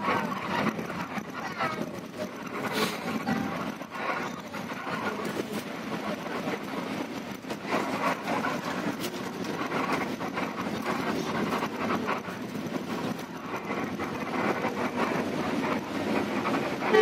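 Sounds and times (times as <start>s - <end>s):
bus engine running: 0.0s - 17.0s
road noise: 0.0s - 17.0s.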